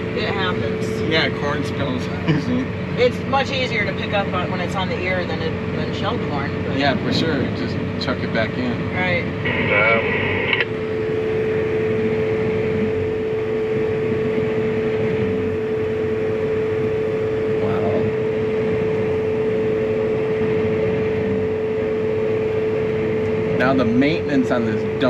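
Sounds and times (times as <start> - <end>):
constant whining tone: 0.0 - 25.0
machine humming: 0.0 - 25.0.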